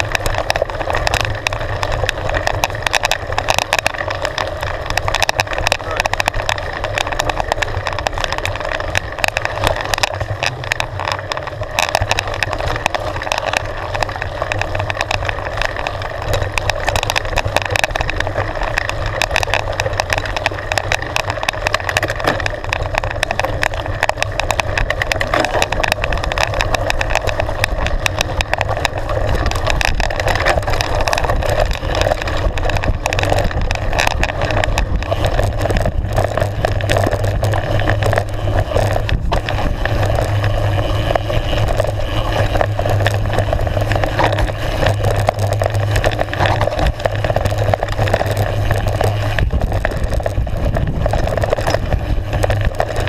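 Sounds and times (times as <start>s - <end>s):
bike rattling and clicking: 0.0s - 53.0s
tyre and wind noise: 0.0s - 53.0s.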